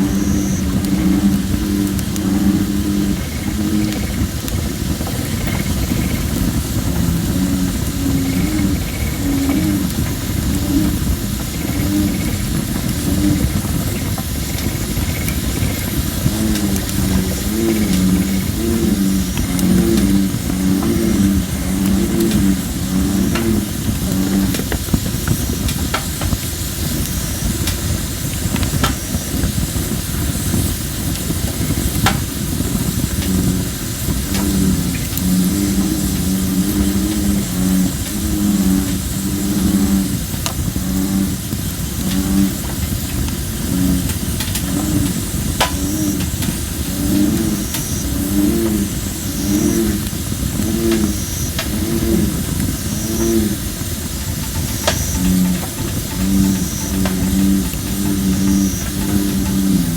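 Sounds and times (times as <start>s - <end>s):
bullfrogs croaking: 0.0s - 59.9s
campfire hissing: 0.0s - 59.9s
fire crackles: 0.0s - 59.9s.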